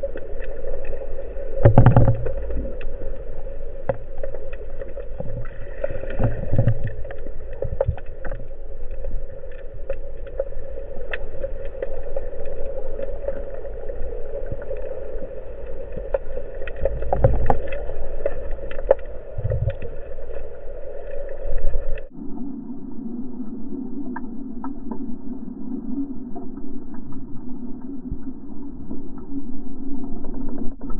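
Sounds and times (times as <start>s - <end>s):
crackling clicks: 0.0s - 22.5s, 24.0s - 25.3s, 26.1s - 30.9s
steady underwater hum: 0.0s - 30.9s.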